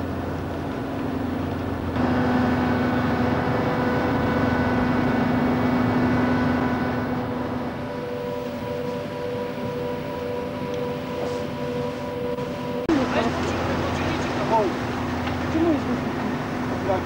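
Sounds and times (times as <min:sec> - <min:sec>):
ship machinery droning: 0:00.0 - 0:17.0
steady multi-tone whine: 0:00.0 - 0:17.0.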